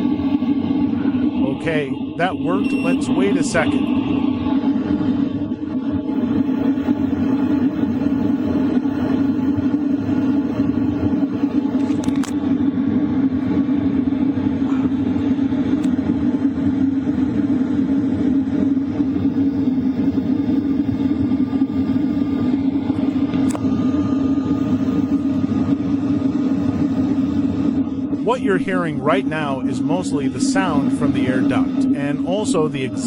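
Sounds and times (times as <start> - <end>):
heater air blowing hum: 0.0 - 33.0
heater exhaust: 0.0 - 33.0.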